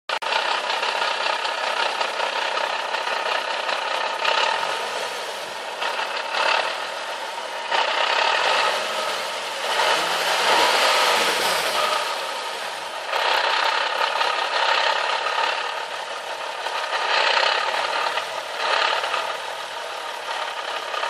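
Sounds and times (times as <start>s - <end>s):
engine idling: 0.1s - 21.0s.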